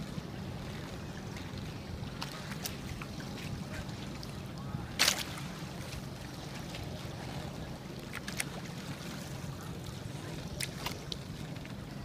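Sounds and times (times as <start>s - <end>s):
constant low rumble: 0.0s - 12.0s
water rushing along hull: 0.0s - 12.0s.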